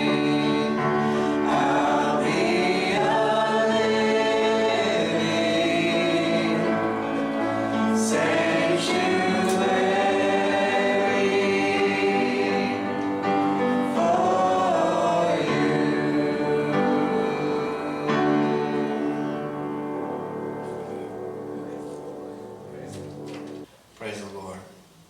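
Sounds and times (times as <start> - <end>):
choir singing gospel song: 0.0 - 22.8.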